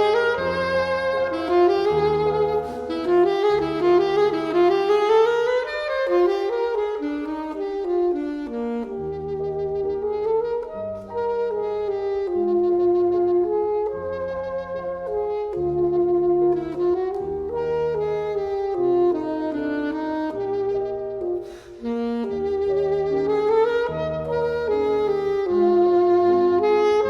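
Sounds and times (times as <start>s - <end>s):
piano accompaniment: 0.0s - 27.0s
saxophone melody: 0.0s - 27.0s.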